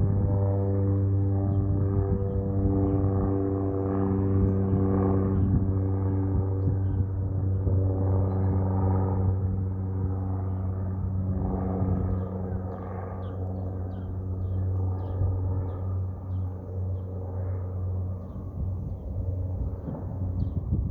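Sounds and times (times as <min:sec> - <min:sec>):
propeller plane engine droning: 0:00.0 - 0:20.9.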